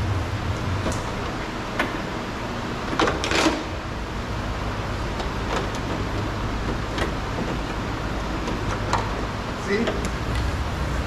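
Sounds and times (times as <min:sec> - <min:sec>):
steady low rumble: 0:00.0 - 0:02.9, 0:03.7 - 0:11.0.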